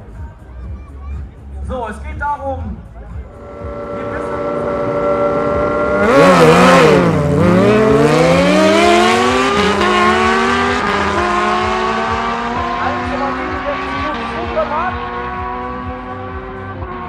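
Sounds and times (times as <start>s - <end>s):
motorcycle engines revving: 3.3s - 17.0s
motorcycles accelerating: 3.3s - 17.0s.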